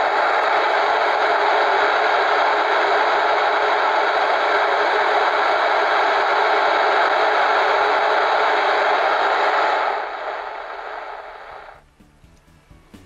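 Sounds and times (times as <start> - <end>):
radio loudspeaker hiss: 0.0 - 11.8.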